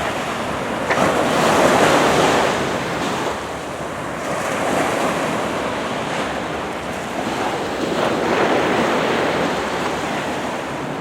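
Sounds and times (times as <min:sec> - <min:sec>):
surf washing onto shore: 0:00.0 - 0:11.0.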